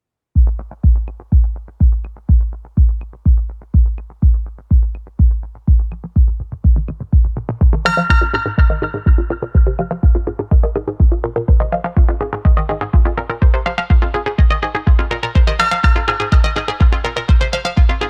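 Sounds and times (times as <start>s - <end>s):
kick drum beat: 0.4s - 18.0s
synth chords: 0.4s - 18.0s.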